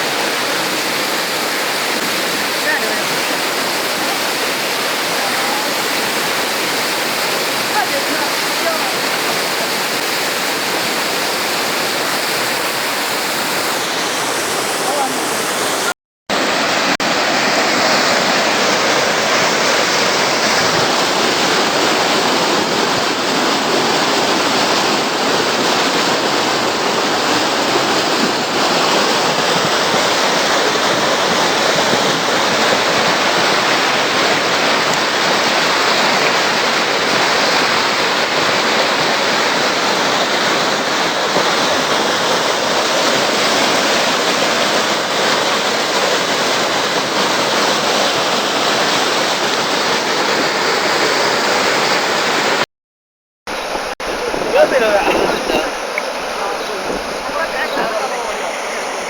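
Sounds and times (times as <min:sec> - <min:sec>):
floodwater rushing: 0:00.0 - 0:52.7, 0:53.5 - 0:59.0.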